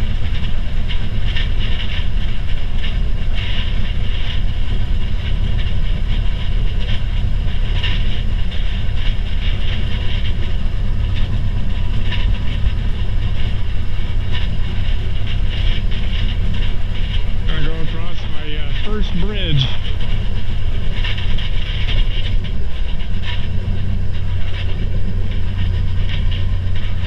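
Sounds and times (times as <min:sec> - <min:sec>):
railcar engine droning: 0:00.0 - 0:27.0
wheels and cab rattling: 0:00.0 - 0:27.0.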